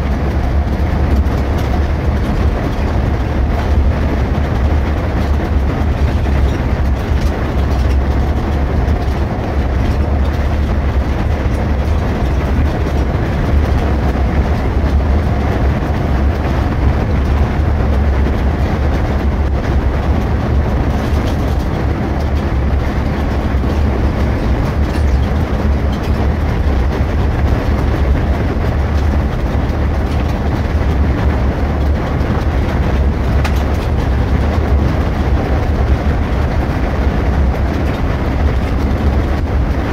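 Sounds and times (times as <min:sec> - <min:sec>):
coach engine drone: 0:00.0 - 0:39.9
road rumble: 0:00.0 - 0:39.9.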